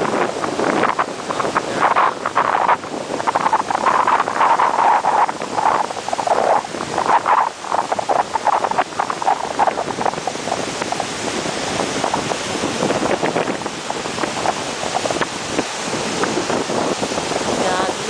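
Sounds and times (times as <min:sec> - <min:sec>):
surf breaking on the shore: 0:00.0 - 0:18.0
wind buffeting the microphone: 0:00.0 - 0:18.0.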